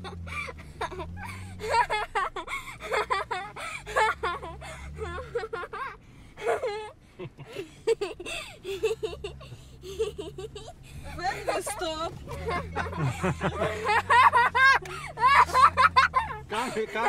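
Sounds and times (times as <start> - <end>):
car engine rising and falling: 0.0 - 17.0
passengers crying out and laughing: 0.0 - 17.0.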